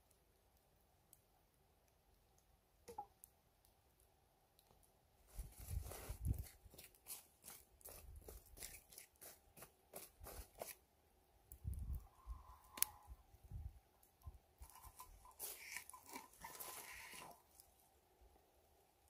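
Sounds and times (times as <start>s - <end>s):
wood embers crunching and crackling: 0.0s - 18.0s.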